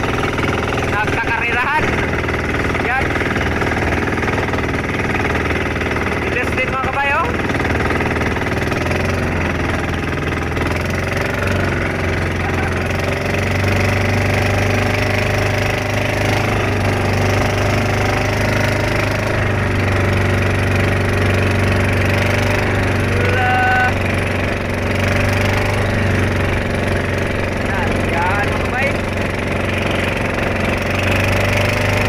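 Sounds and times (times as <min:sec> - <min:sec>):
boat engines droning: 0:00.0 - 0:32.0.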